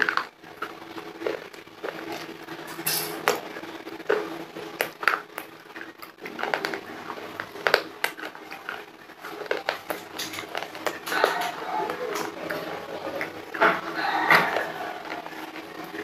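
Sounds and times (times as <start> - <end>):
crunching and chewing clay: 0.0 - 16.0.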